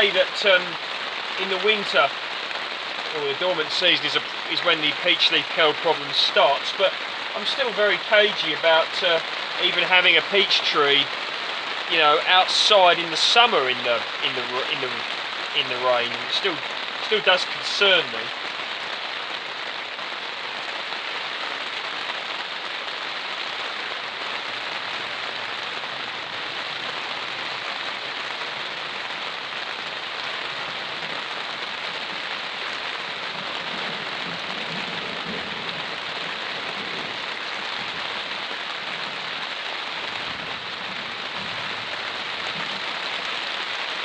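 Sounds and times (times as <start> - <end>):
rain pattering on surfaces: 0.0 - 44.0.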